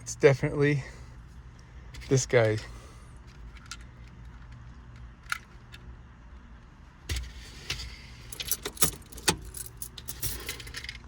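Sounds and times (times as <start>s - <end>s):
low hum inside a car: 0.0s - 11.0s.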